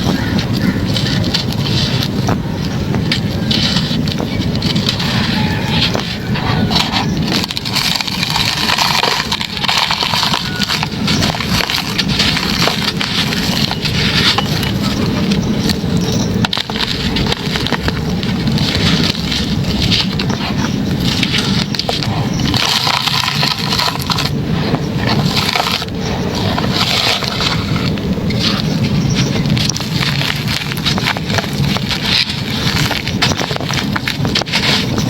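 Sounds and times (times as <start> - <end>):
hard chunks crunching: 0.0 - 35.0.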